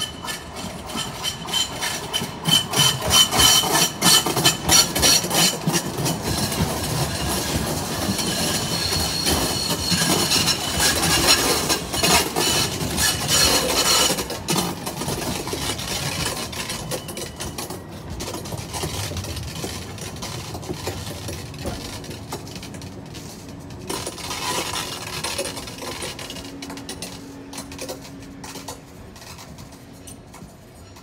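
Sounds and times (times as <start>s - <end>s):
train wheels clattering on track: 0.0s - 31.0s.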